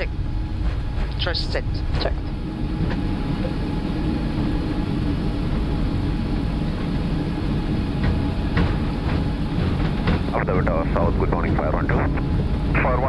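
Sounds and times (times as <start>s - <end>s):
faint steady hum: 0.0s - 13.0s
jet engines rumbling: 0.0s - 13.0s
wheels rumbling on runway: 0.0s - 13.0s.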